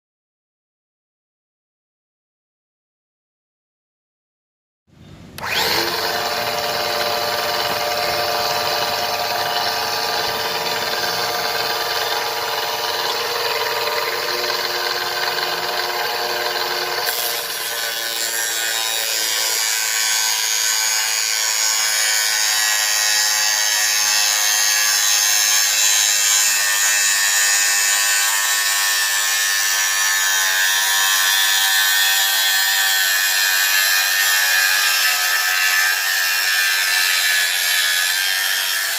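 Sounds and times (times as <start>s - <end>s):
cutting saw motor whining: 5.4s - 38.9s.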